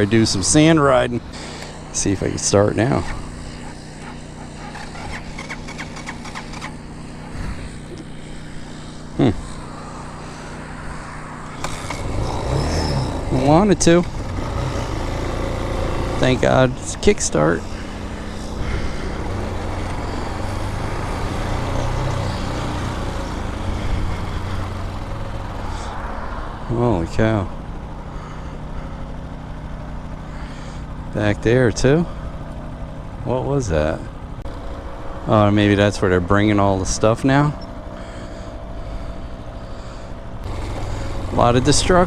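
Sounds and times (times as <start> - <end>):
dirt bike engine running: 0.0 - 42.0
steady low hum: 0.0 - 42.0.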